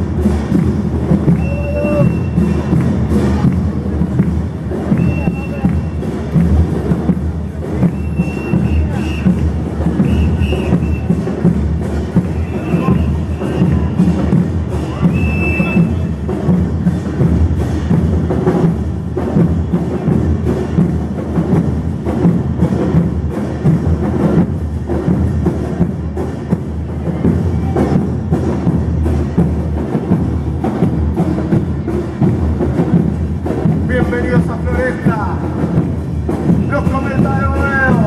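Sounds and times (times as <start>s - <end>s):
bass drums with cymbals beating: 0.0s - 38.0s.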